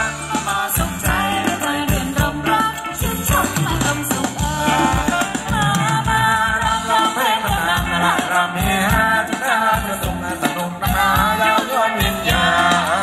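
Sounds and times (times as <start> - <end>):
live dance band playing: 0.0 - 13.0
person singing: 0.0 - 13.0
steady drum beat: 0.0 - 13.0.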